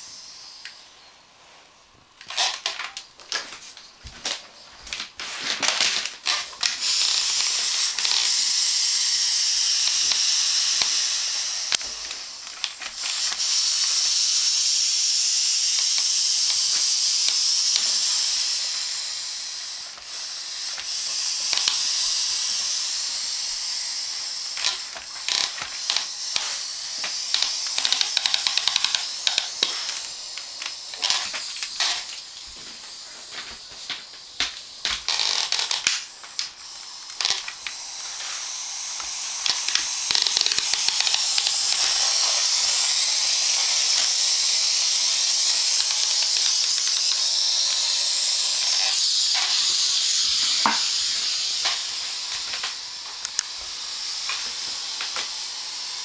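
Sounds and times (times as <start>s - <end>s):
steam mop hissing: 0.0s - 1.7s, 4.8s - 56.0s.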